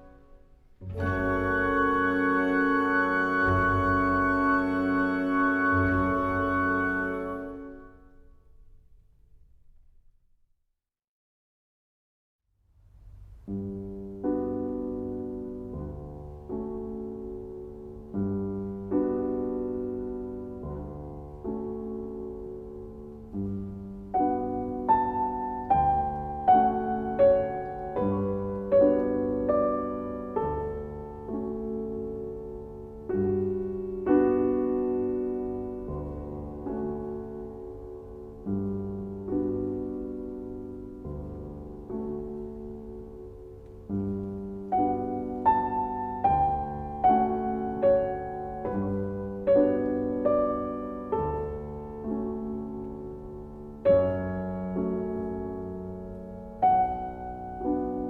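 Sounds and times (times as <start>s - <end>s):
slow solo piano piece: 0.0s - 9.0s, 12.9s - 58.0s.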